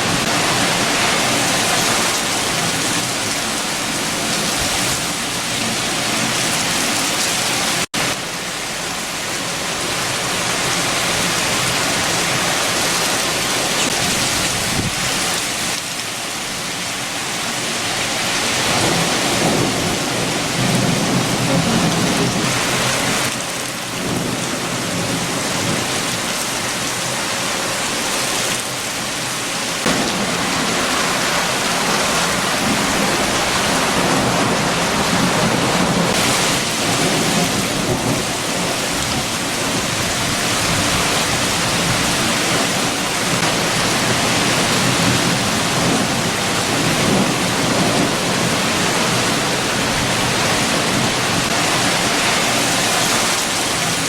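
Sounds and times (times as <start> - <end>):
heavy rain: 0.0 - 54.0
strong wind: 0.0 - 54.0.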